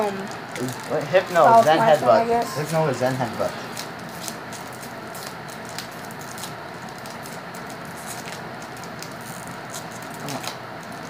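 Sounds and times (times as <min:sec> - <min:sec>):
steady background hiss: 0:00.0 - 0:10.8
foil wrapper crinkling: 0:00.1 - 0:11.0.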